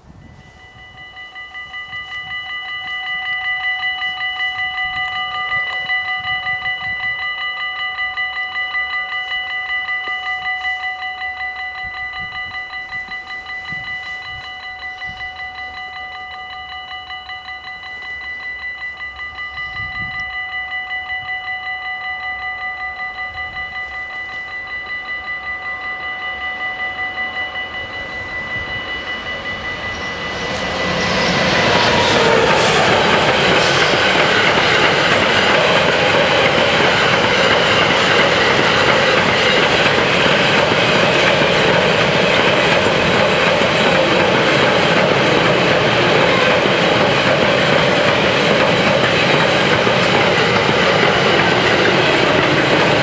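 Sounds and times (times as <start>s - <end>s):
level-crossing warning bells ringing: 0.0s - 53.0s.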